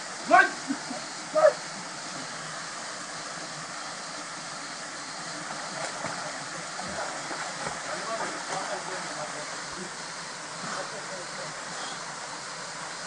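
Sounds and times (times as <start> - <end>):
small waterfall rushing: 0.0 - 13.0
swimmer splashing: 0.0 - 13.0.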